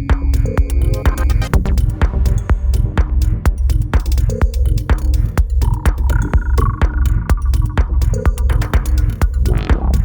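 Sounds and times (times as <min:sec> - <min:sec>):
deep throbbing bass: 0:00.0 - 0:10.0
hi-hats ticking: 0:00.0 - 0:10.0
kick drum: 0:00.0 - 0:10.0.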